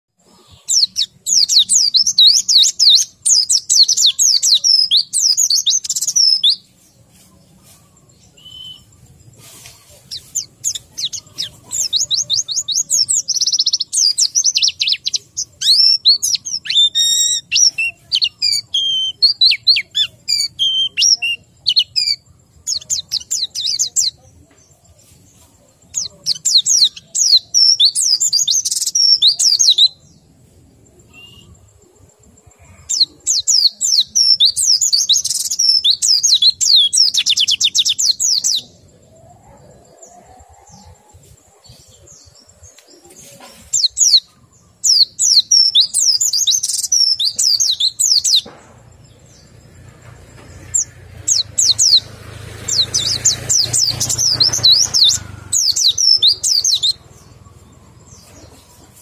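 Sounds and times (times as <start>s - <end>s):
bird twittering song: 0.2s - 59.0s.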